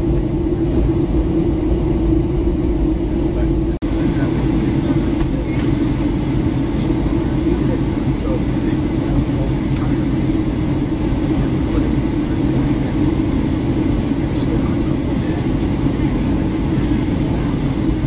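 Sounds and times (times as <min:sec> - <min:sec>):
airplane cabin roar: 0:00.0 - 0:18.0.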